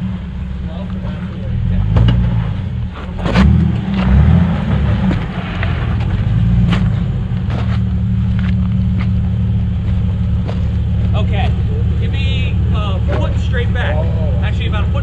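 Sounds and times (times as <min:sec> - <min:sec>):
engine running low: 0:00.0 - 0:15.0.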